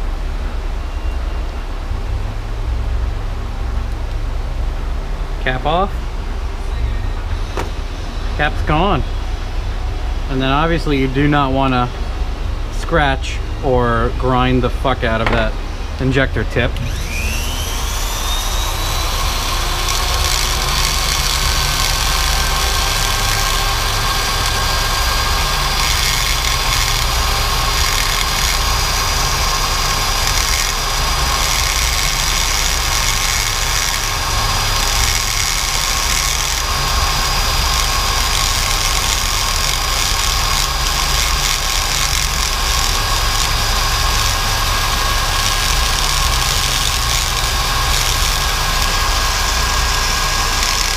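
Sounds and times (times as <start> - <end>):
rotary tool whining: 6.6 - 50.9.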